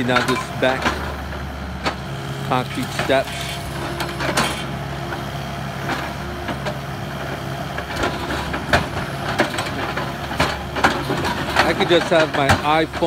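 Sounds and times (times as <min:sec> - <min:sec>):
demolition machine engine running: 0:00.0 - 0:13.0.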